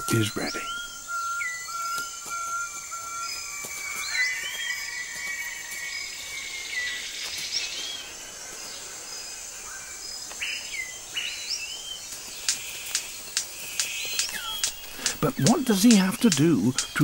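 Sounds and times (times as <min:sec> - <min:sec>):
birds whistling: 0:00.0 - 0:17.0
high insect drone: 0:00.0 - 0:17.0.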